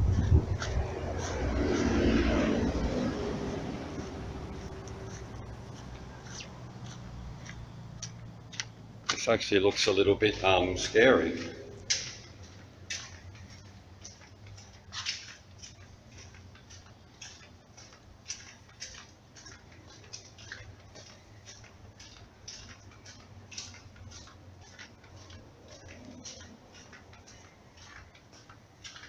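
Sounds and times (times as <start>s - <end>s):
footsteps on concrete: 0.0s - 29.0s.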